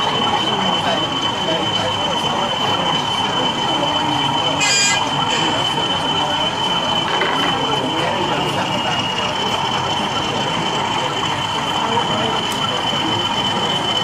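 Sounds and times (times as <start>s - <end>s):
crowd chatter: 0.0s - 14.0s
model locomotive high whine: 0.0s - 14.0s.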